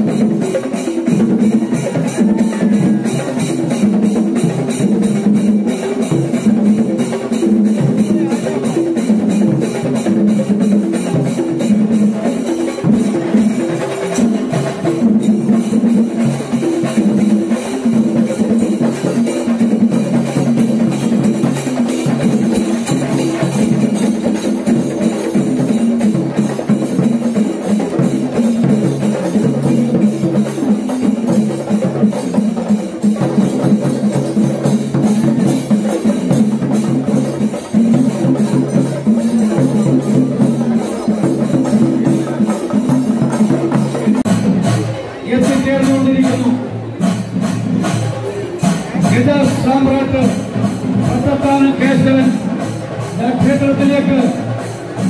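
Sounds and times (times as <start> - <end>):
fast drumming and clacking: 0.0 - 55.0.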